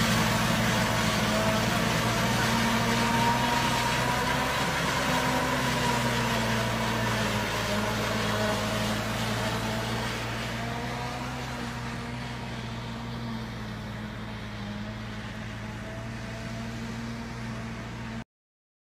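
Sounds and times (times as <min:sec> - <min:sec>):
tractor diesel engine humming: 0:00.0 - 0:18.2.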